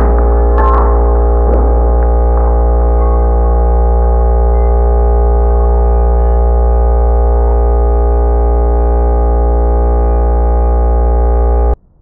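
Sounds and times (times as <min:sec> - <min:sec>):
loud low buzzing tone: 0:00.0 - 0:12.0.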